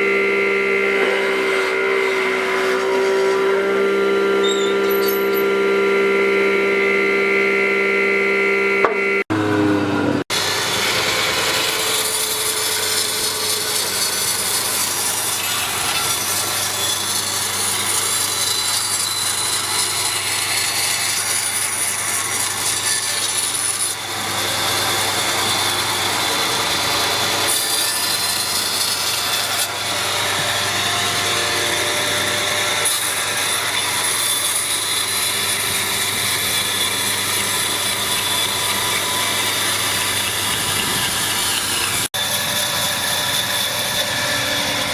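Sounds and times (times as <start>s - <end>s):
power tool rasping wood: 0.0s - 44.9s.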